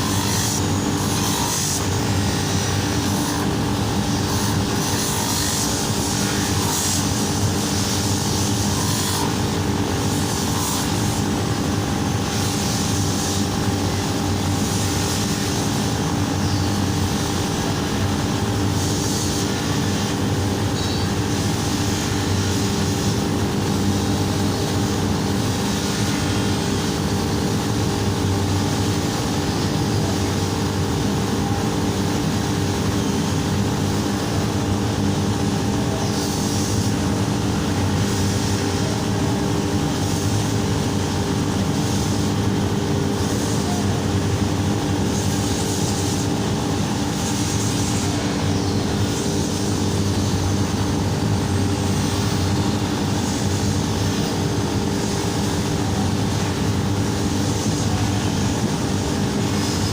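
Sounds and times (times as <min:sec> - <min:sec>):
machine humming and whirring: 0:00.0 - 0:59.9.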